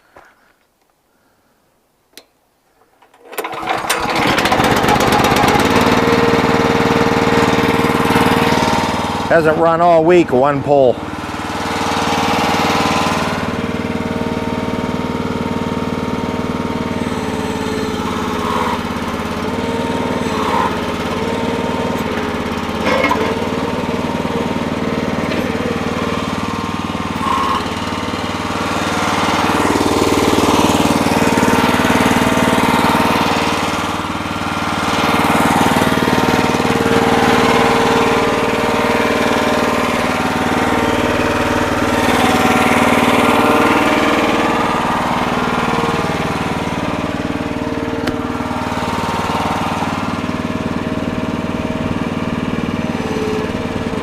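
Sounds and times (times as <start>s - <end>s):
small gas engine running: 2.8s - 54.0s.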